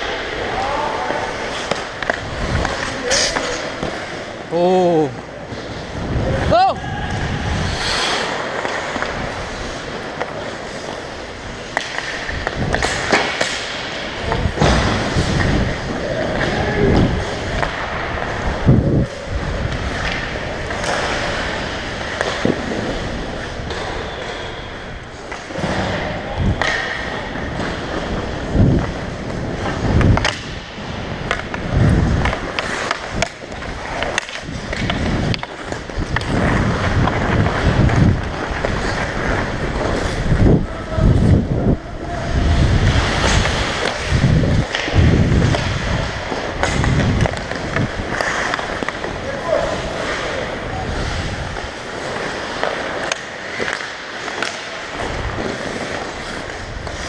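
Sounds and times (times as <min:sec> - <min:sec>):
hockey sticks and puck clacking: 0:00.0 - 0:57.0
skate blades scraping ice: 0:00.0 - 0:57.0.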